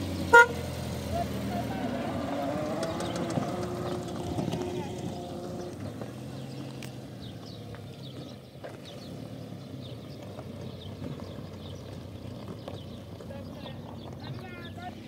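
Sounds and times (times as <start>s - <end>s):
car engine running at low revs: 0.0s - 15.0s
small birds chirping: 2.2s - 15.0s.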